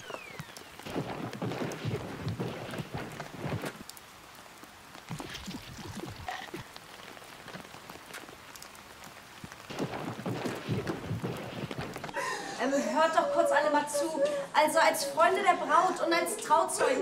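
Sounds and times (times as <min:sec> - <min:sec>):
raindrops striking close by: 0:00.0 - 0:17.0
steady rain: 0:00.0 - 0:17.0.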